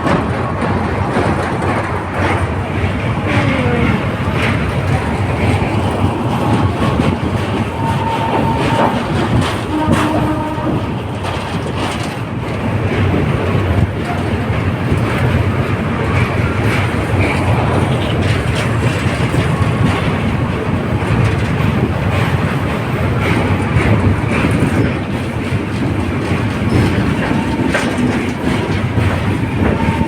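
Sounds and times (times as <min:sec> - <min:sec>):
train wheels clattering over rails: 0:00.0 - 0:30.0.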